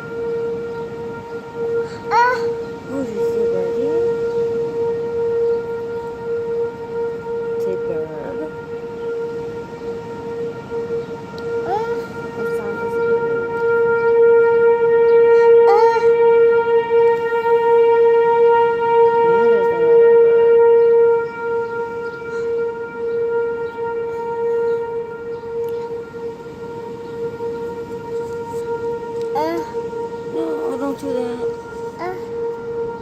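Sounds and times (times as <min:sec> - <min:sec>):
rising siren sweeps: 0:00.0 - 0:33.0
tornado warning siren: 0:00.0 - 0:33.0.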